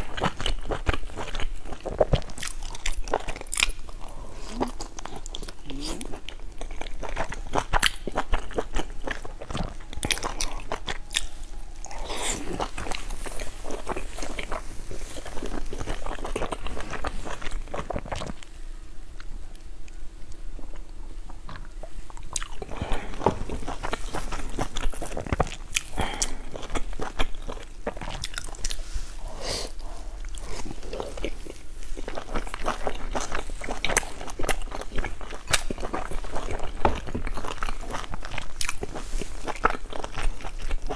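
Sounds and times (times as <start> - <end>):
wet chewing: 0.0 - 18.5, 20.6 - 28.8, 29.4 - 40.9.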